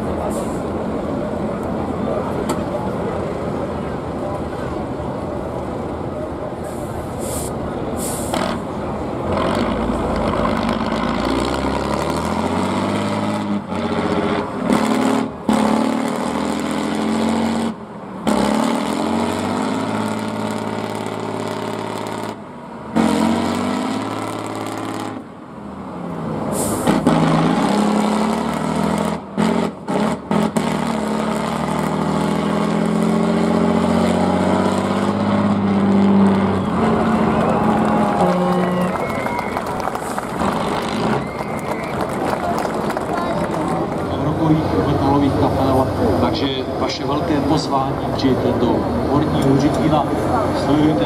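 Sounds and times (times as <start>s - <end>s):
truck engine revving hard: 5.8s - 51.0s.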